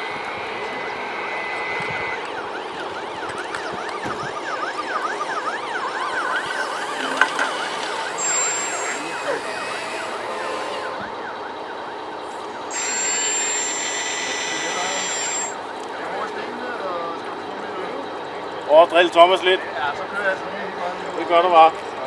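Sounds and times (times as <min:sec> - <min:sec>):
siren yelping: 0:00.0 - 0:20.0.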